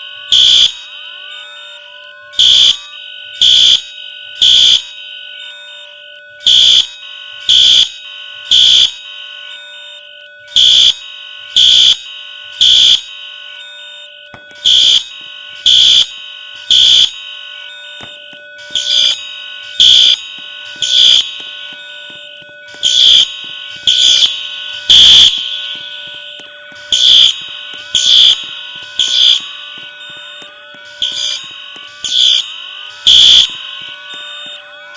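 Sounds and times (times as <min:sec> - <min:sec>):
fire alarm beeping: 0:00.0 - 0:34.9.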